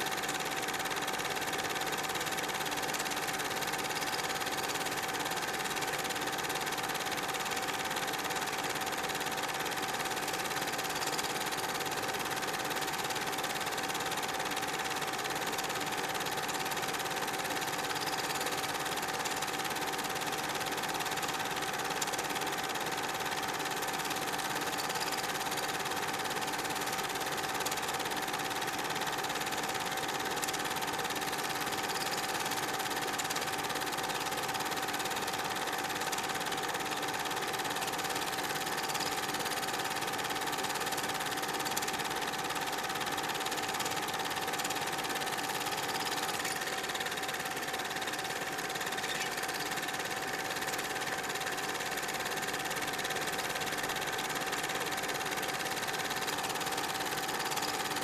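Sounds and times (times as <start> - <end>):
film projector whirring: 0.0 - 58.0.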